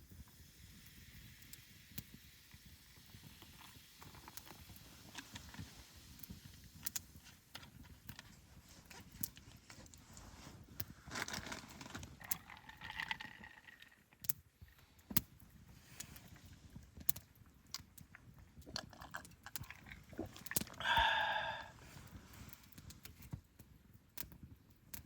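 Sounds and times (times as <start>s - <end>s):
wood fire crackling: 1.4s - 25.0s.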